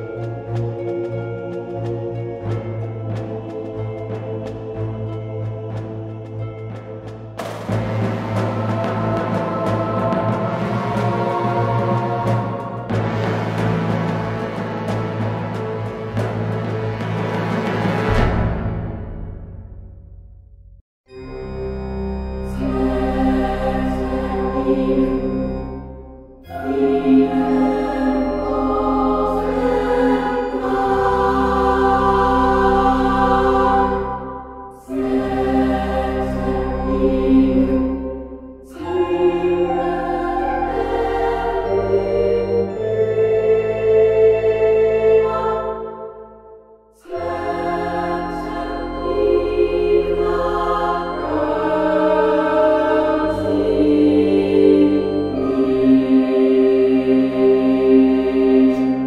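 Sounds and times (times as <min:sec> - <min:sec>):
music of long held chords: 0:00.0 - 0:18.7, 0:21.1 - 0:59.0.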